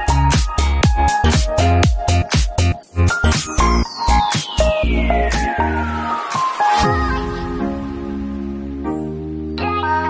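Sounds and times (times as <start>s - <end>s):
electronic dance music: 0.0s - 9.0s.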